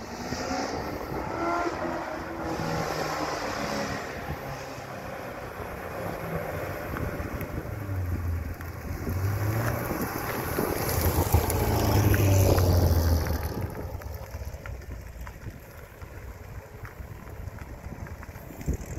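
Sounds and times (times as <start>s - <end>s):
sports car driving past: 0.0s - 16.0s.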